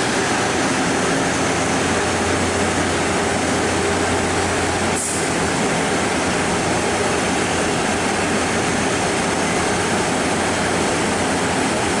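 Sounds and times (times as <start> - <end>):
train diesel engines idling: 0.0 - 12.0.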